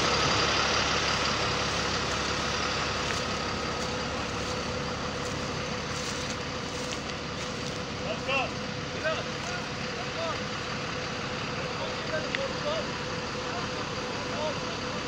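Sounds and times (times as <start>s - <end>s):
heavy truck engine running: 0.0s - 15.0s
thin steady whine: 0.0s - 15.0s.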